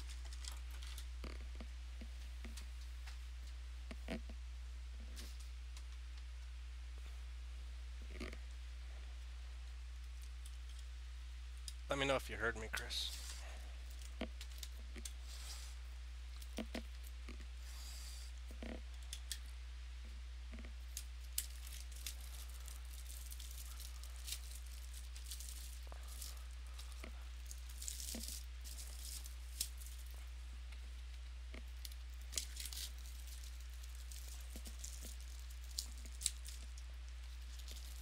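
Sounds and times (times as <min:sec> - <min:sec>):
crinkly rustles: 0:00.0 - 0:04.3, 0:11.7 - 0:38.0
steady low hum: 0:00.0 - 0:38.0.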